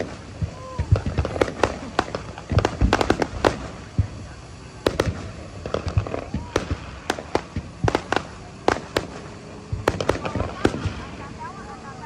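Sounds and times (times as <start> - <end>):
fireworks bangs and crackling pops: 0.0 - 12.0.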